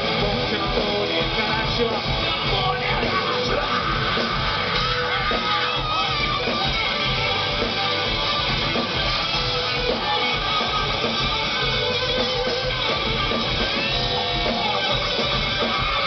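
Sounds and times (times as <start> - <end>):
electric guitar: 0.0 - 16.0
rock band playing live: 0.0 - 16.0.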